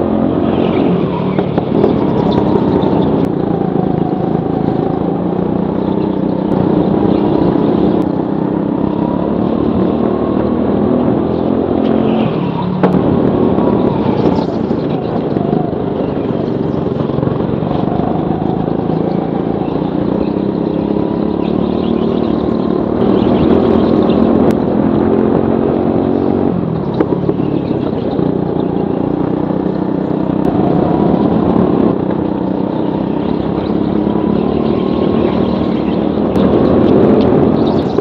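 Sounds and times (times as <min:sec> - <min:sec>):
go-kart engine under hard throttle: 0:00.0 - 0:38.0.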